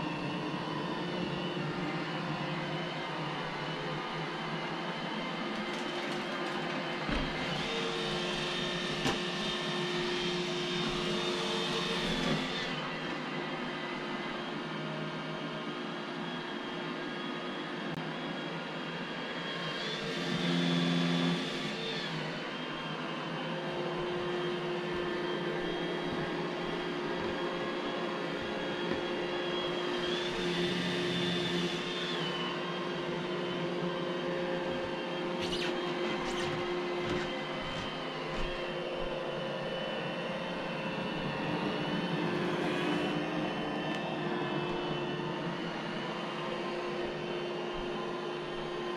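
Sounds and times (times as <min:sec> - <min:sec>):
robot vacuum motor hum: 0:00.0 - 0:14.3, 0:19.5 - 0:48.9.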